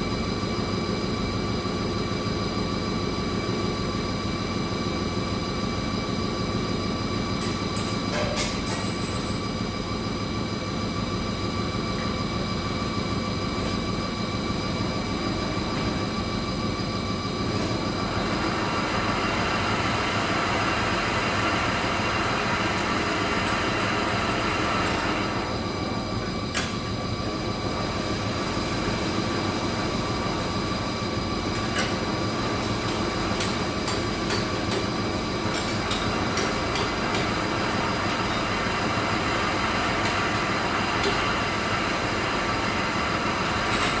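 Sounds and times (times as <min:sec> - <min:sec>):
machinery din with whining tones: 0:00.0 - 0:44.0.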